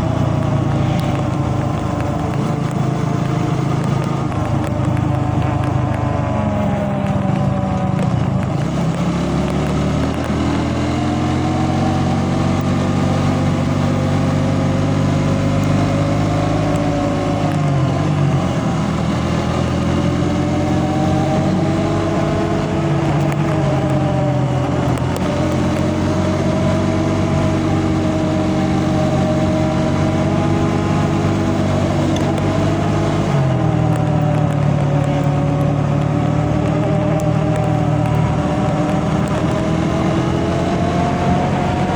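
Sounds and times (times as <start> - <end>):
road noise: 0.0 - 41.9
vehicle engine running: 0.0 - 41.9.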